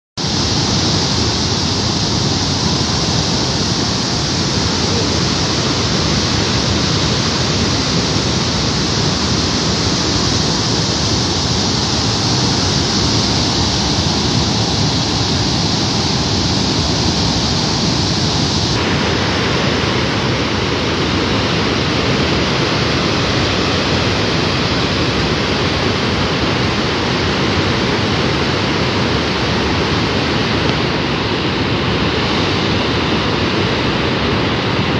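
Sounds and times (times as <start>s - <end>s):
water rushing: 0.2s - 34.9s.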